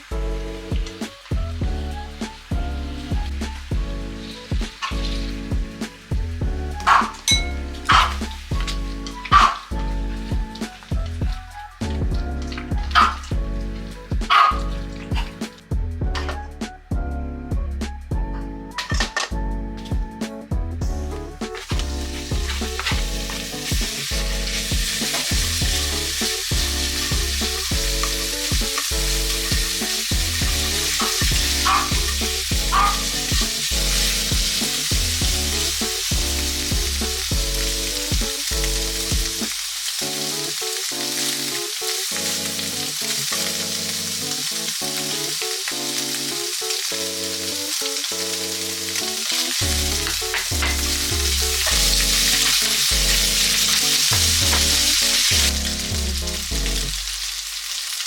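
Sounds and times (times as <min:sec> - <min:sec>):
food sizzling in a pan: 0:00.0 - 0:11.8, 0:12.6 - 0:15.7, 0:21.5 - 0:58.0
background music with bass: 0:00.0 - 0:41.4, 0:48.2 - 0:57.5.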